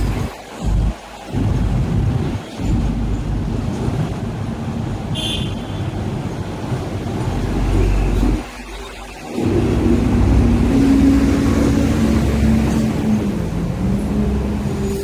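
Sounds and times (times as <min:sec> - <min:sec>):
tram passing: 0:00.0 - 0:05.2, 0:05.8 - 0:15.0
street traffic rumble: 0:00.0 - 0:15.0.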